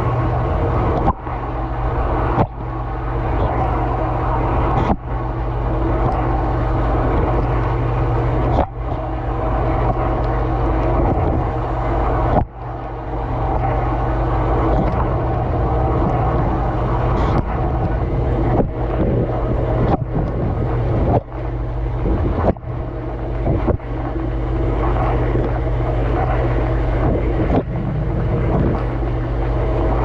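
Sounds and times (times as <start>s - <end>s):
dishwasher pump humming: 0.0s - 30.0s.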